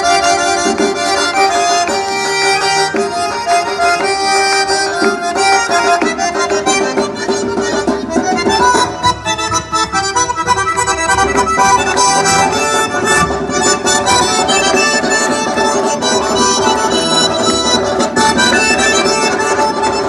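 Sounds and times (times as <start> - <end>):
folk dance music on accordion: 0.0 - 20.0
sharp percussion strikes: 0.0 - 20.0.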